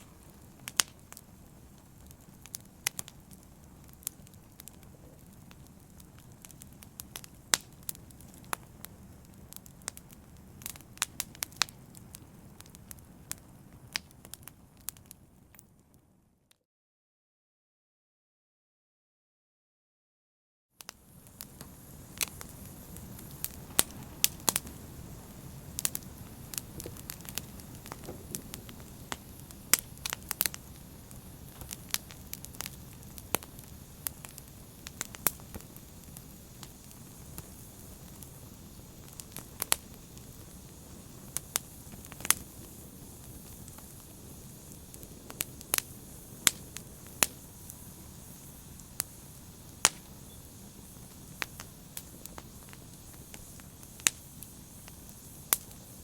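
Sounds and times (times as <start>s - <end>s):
low rush of flames: 0.0s - 15.6s, 20.9s - 56.0s
fire crackling and popping: 0.0s - 16.1s, 20.8s - 56.0s.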